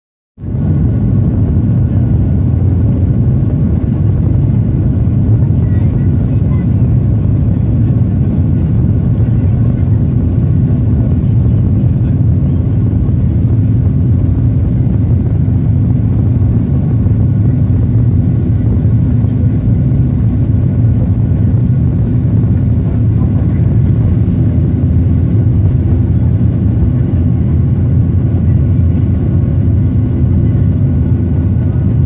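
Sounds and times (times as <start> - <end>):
jet engines roaring: 0.4 - 32.0.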